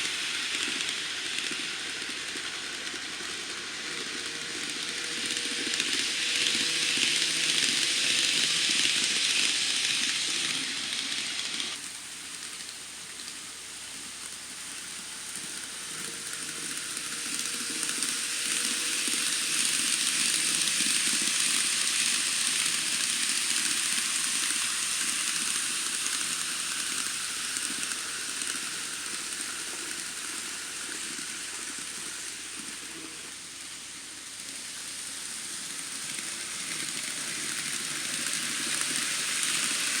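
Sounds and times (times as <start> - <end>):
faint motor whine: 0.0 - 40.0
model train wheels hissing on rails: 0.0 - 40.0.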